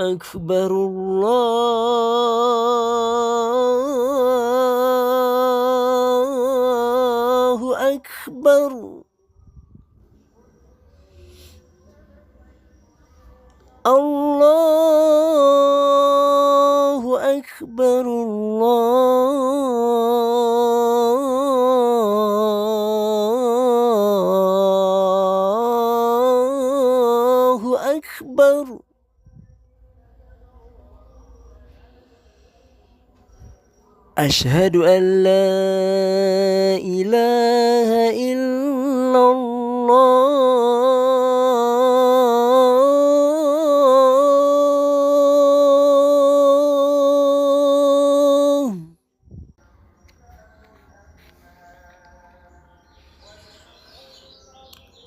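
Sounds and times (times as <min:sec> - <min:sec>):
man singing call to prayer: 0:00.0 - 0:55.0.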